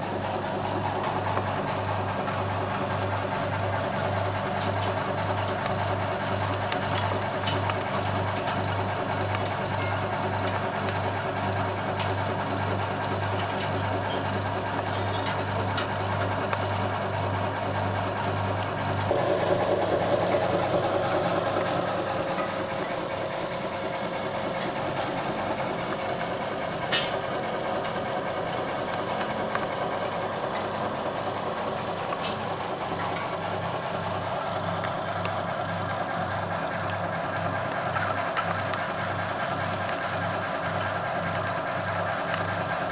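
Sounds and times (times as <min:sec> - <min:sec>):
machine motor pulsing hum: 0:00.0 - 0:42.9.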